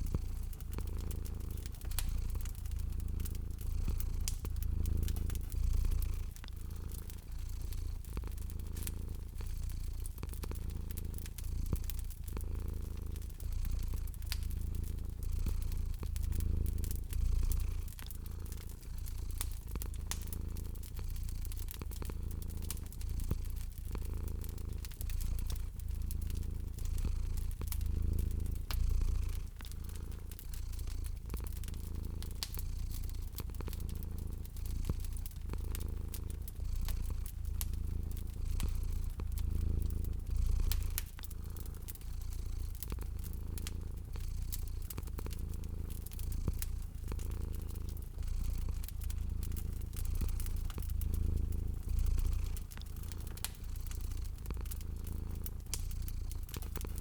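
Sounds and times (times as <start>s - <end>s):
cat purring: 0.0s - 57.0s
wood fire crackling: 0.0s - 57.0s.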